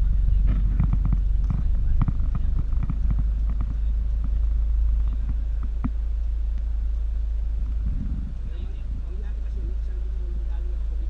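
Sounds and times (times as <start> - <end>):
baler engine rumble: 0.0 - 11.0.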